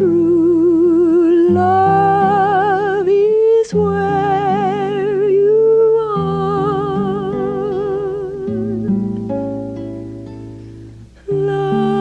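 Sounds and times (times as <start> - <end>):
woman singing with vibrato: 0.0 - 9.1, 11.2 - 12.0.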